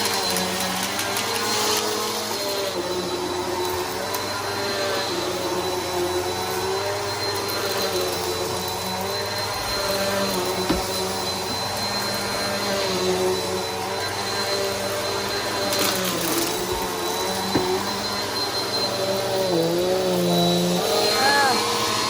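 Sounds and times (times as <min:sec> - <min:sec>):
upright vacuum cleaner running: 0:00.0 - 0:22.0.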